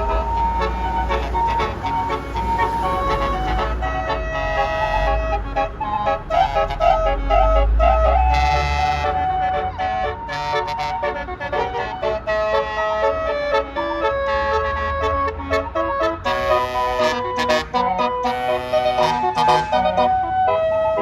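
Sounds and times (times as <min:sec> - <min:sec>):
bus engine rumbling: 0:00.0 - 0:21.0
musical air horn melody: 0:00.0 - 0:21.0.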